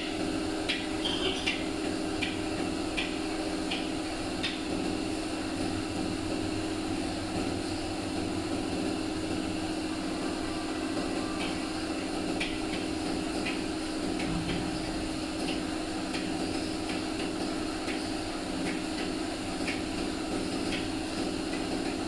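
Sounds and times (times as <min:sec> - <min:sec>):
motor humming: 0:00.7 - 0:21.6.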